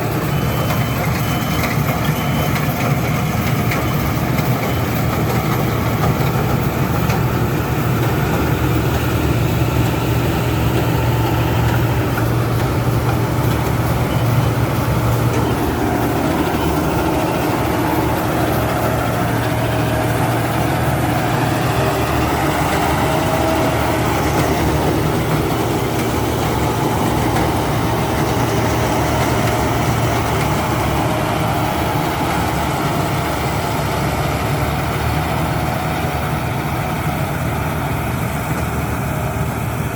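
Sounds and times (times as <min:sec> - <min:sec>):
combine harvester engine drone: 0:00.0 - 0:39.9
faint machinery whine: 0:00.0 - 0:39.9.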